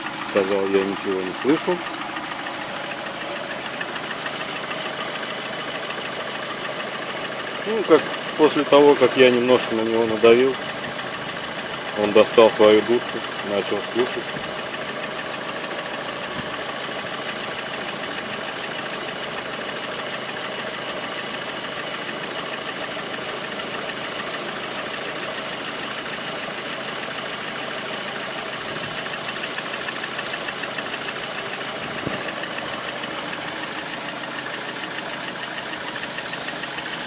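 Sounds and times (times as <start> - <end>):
car engine idling with knocking: 0.0 - 37.0.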